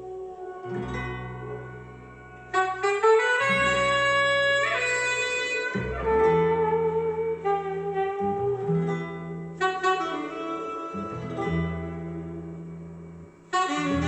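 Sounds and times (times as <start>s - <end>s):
held melody line: 0.0s - 14.0s
plucked guitar notes: 0.0s - 14.0s
sustained bass notes: 0.0s - 14.0s.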